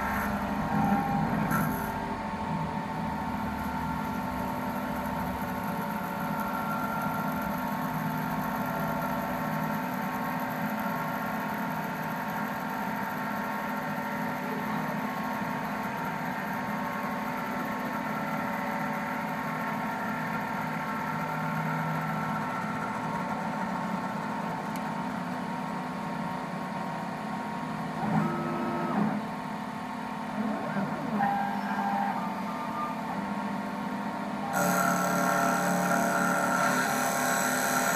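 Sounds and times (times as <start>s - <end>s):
lathe motor humming: 0.0s - 37.9s.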